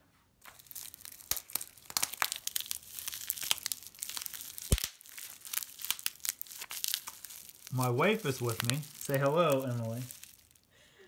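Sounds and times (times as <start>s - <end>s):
plastic wrapping crinkling and tearing: 0.4s - 10.7s.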